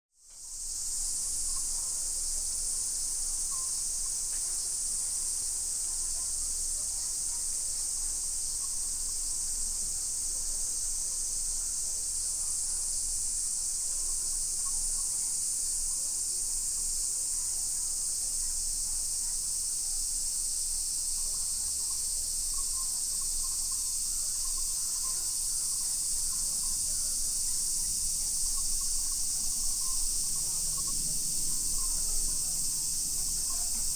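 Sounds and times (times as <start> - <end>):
cicadas buzzing: 0.3 - 33.9.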